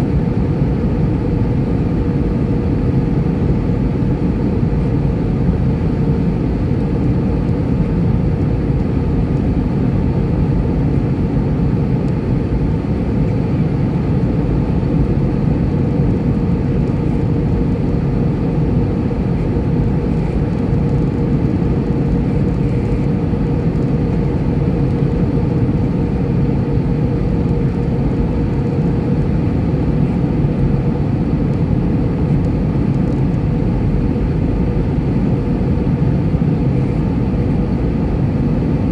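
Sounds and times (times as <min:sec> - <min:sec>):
aircraft cabin engine noise: 0:00.0 - 0:38.9.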